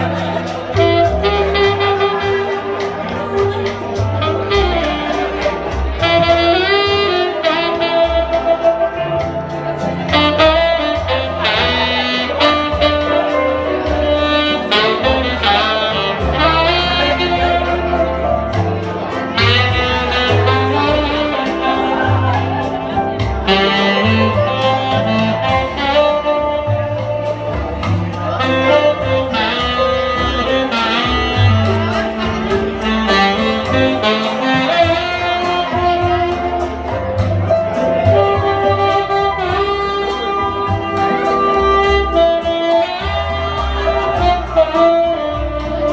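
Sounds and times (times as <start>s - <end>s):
musical accompaniment with bass: 0.0s - 45.9s
recorded backing track: 0.0s - 45.9s
tenor saxophone melody: 0.0s - 45.9s.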